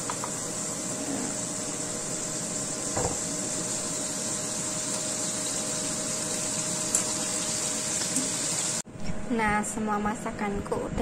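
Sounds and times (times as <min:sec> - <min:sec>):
food sizzling in oil: 0:00.0 - 0:08.8.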